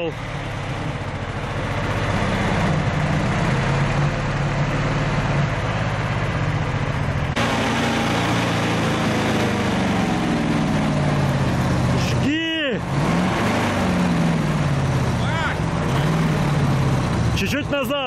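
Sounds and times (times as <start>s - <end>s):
truck engine running at low revs: 0.0s - 18.0s.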